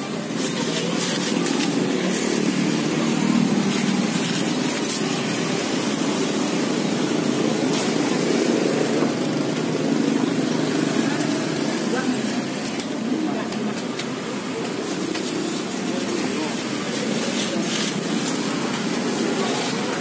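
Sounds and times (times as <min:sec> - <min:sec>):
busy street noise: 0:00.0 - 0:20.0.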